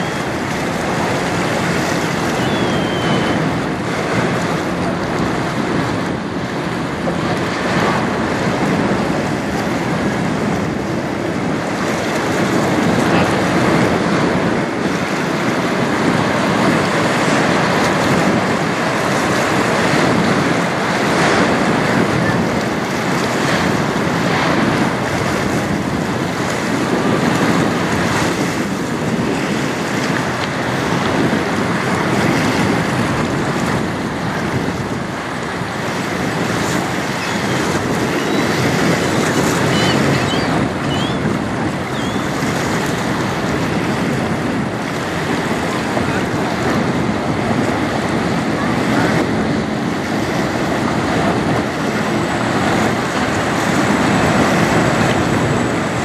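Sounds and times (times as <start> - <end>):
choppy river water lapping: 0.0 - 56.0
wind buffeting microphone: 0.0 - 56.0.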